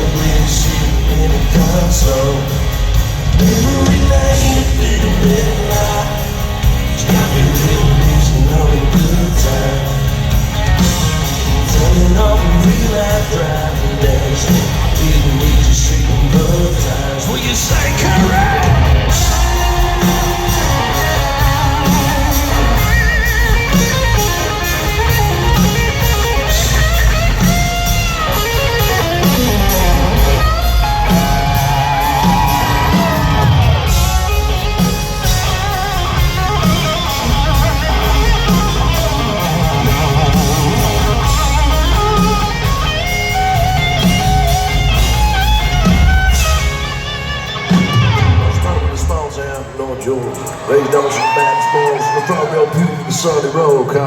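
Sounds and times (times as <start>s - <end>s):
bass guitar: 0.0s - 49.8s
electric guitar lead: 0.0s - 53.1s
drums: 0.0s - 54.0s.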